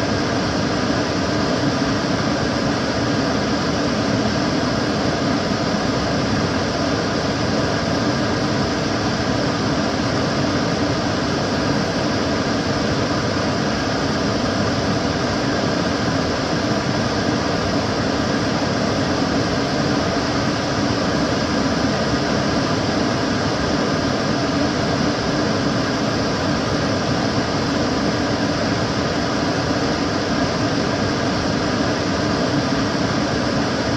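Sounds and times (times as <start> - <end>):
extractor fan running: 0.0 - 33.9.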